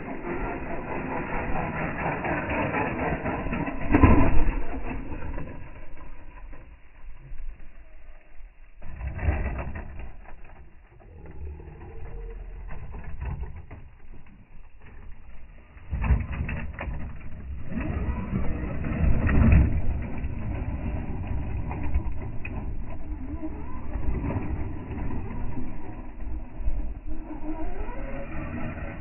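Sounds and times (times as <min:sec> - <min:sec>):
deep rumbling with warbling glides: 0:00.0 - 0:29.0.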